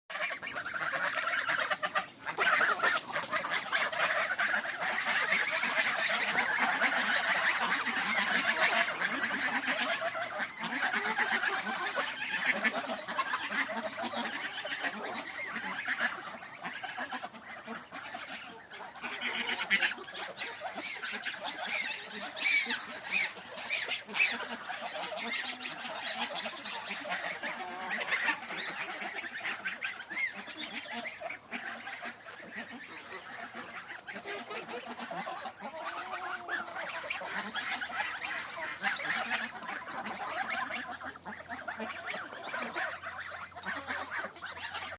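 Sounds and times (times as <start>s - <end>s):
farmyard fowl calling: 0.1s - 44.9s.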